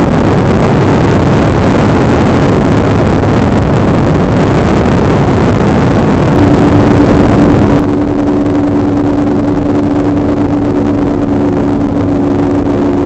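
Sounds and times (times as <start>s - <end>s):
powerboat engines droning: 0.0s - 13.0s
rush of wind and water: 0.0s - 13.0s.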